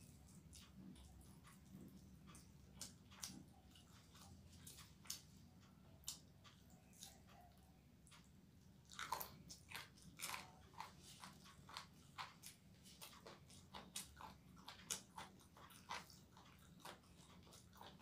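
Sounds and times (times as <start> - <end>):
biting and chewing food: 0.0 - 18.0.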